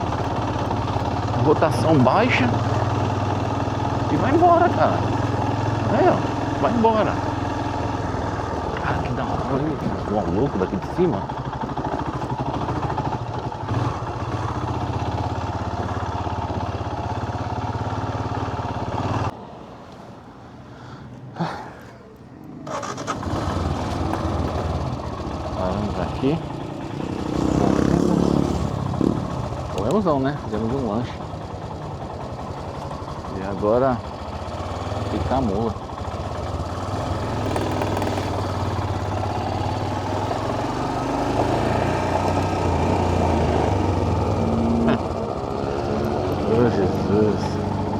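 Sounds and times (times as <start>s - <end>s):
motorcycle engine at low revs: 0.0s - 19.4s, 22.4s - 47.9s.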